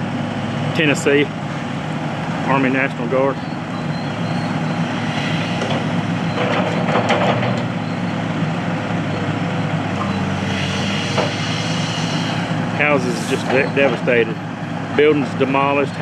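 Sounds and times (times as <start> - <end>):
heavy truck engine running: 0.0 - 16.0.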